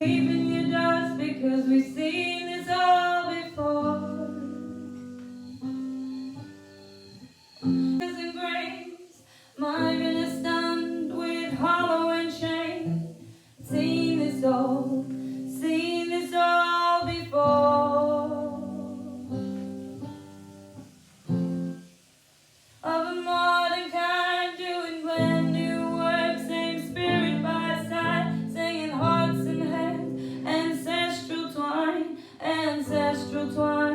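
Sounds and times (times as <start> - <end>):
woman singing: 0.0 - 5.4, 8.0 - 19.6, 22.8 - 33.9
acoustic guitar: 0.0 - 33.9.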